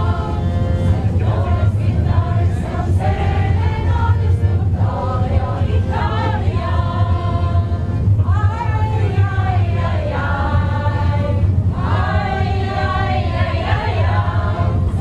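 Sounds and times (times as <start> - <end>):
group of people singing: 0.0 - 15.0
steady low hum: 0.0 - 15.0.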